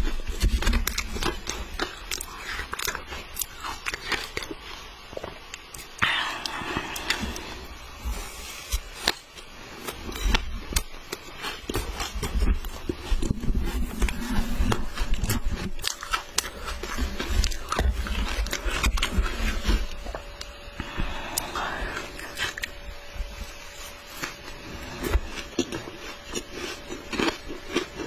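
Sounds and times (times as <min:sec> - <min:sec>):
shaved ice being chewed: 0:00.0 - 0:07.6, 0:08.3 - 0:28.0.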